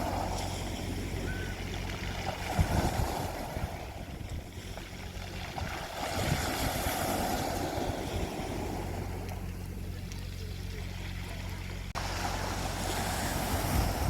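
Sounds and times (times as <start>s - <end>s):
low steady hum: 0.0s - 14.0s
sea waves breaking: 0.0s - 14.0s.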